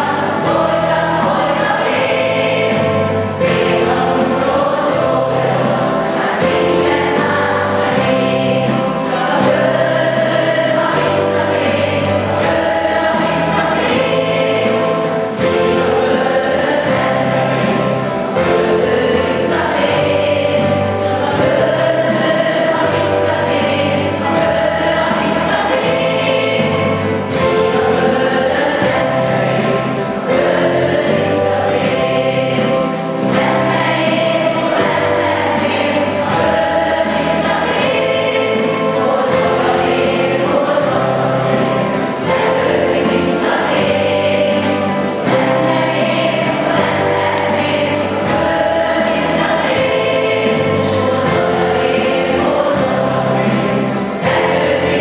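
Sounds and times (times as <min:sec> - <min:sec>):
children's choir singing: 0:00.0 - 0:55.0
instrumental accompaniment: 0:00.0 - 0:55.0.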